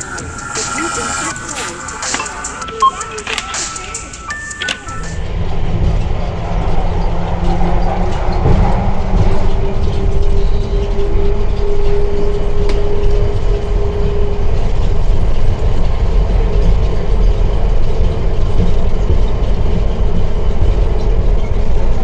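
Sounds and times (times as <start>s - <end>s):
steady hum: 0.0s - 22.0s
train rumbling: 0.0s - 22.0s.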